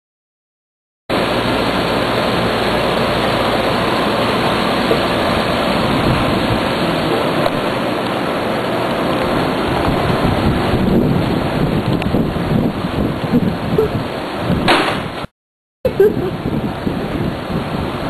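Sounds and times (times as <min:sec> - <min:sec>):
rushing air: 0:01.1 - 0:15.3, 0:16.0 - 0:18.0.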